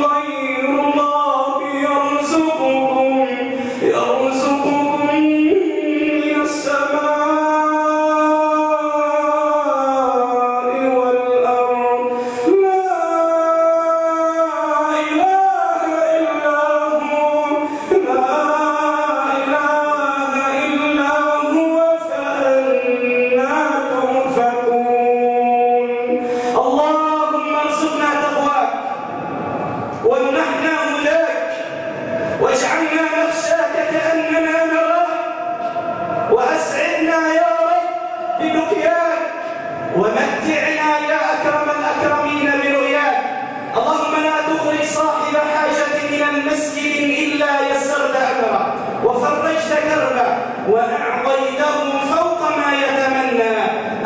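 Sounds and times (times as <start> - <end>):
man chanting into a microphone: 0.0 - 54.0.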